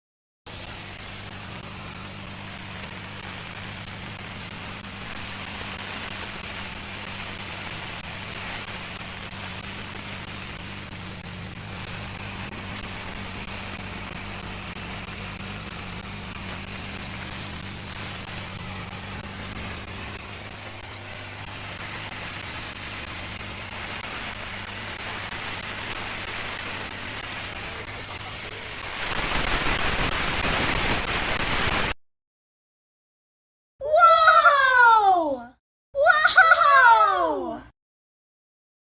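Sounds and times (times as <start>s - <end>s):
plasma cutter hissing: 0.5s - 32.0s.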